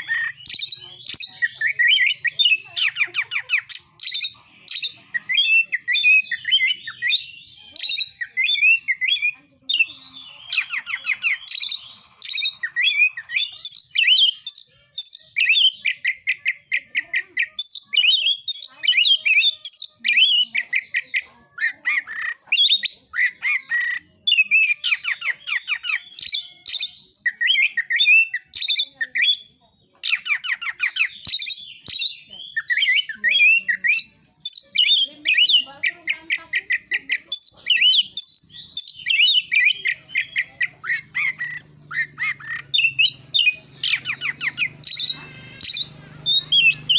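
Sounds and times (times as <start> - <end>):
songbird whistling and trilling: 0.0 - 46.9.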